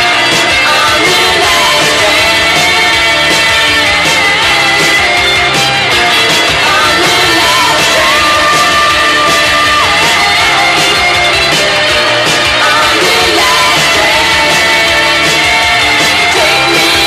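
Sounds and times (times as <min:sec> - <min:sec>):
drums: 0:00.0 - 0:17.0
electric guitar: 0:00.0 - 0:17.0
person singing: 0:00.0 - 0:17.0
rock band playing: 0:00.0 - 0:17.0.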